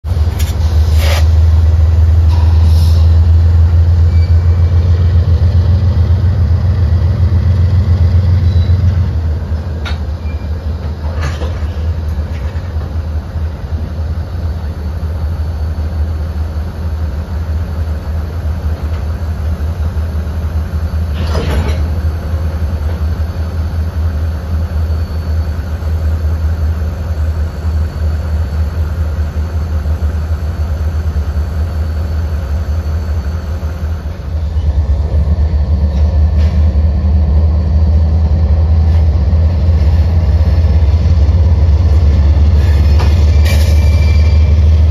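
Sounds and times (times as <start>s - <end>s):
diesel locomotive engine drone: 0.0s - 44.9s.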